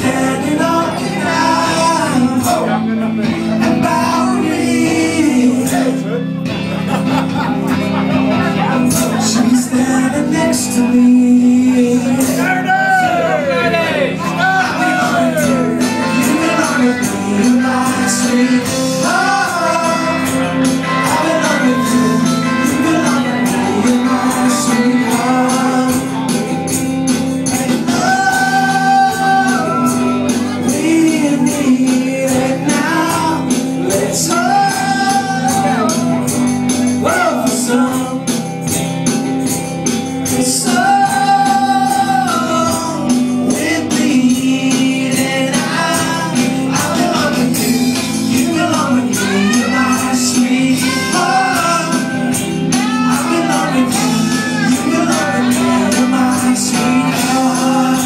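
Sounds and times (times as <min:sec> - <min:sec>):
man singing long notes: 0:00.0 - 0:06.4, 0:08.4 - 0:26.8, 0:27.4 - 0:38.5, 0:40.3 - 0:58.0
live band playing: 0:00.0 - 0:58.0.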